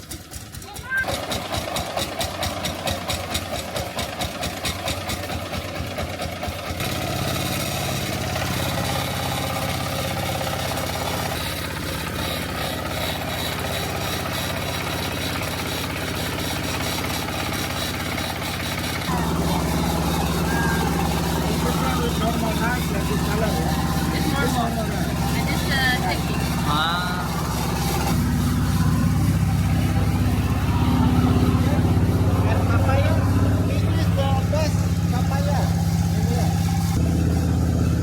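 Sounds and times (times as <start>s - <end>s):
hulling machine engine chugging: 0.0s - 38.0s.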